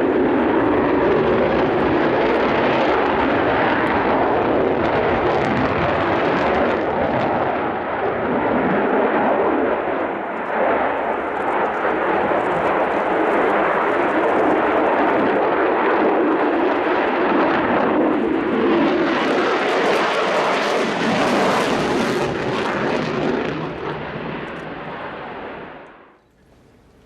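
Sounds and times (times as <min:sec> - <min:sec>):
jet roaring by: 0:00.0 - 0:26.2.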